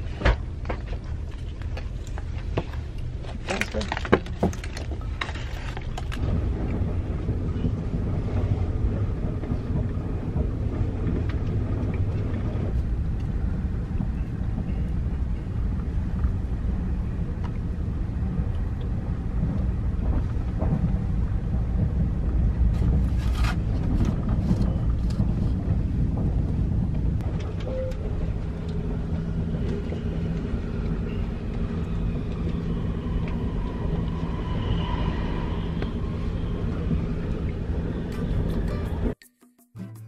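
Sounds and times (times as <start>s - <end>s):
train carriage rumble: 0.0s - 39.2s.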